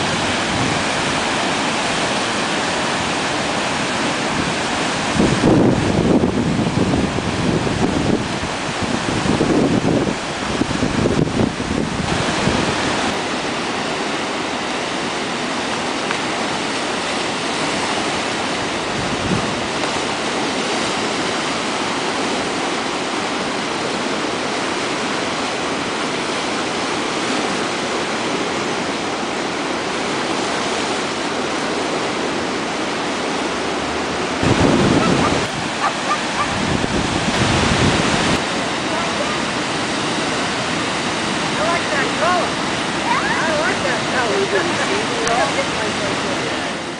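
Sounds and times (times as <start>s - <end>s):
river rushing through whitewater: 0.0s - 46.9s
wind buffeting on microphone: 0.0s - 46.9s.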